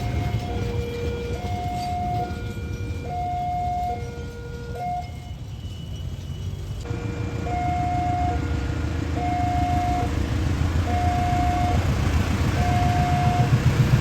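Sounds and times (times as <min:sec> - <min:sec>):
two-tone train horn: 0:00.0 - 0:10.2, 0:12.5 - 0:13.6
low rumble of running train: 0:00.0 - 0:14.0.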